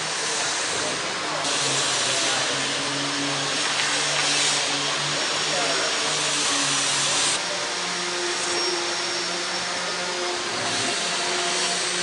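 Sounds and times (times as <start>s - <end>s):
workshop machinery whirring: 0.0s - 12.0s.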